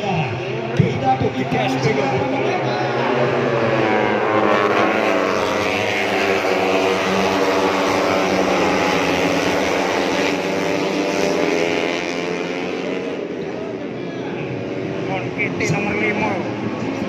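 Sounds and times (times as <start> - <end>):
racing motorcycles at high revs: 0.7 - 17.0.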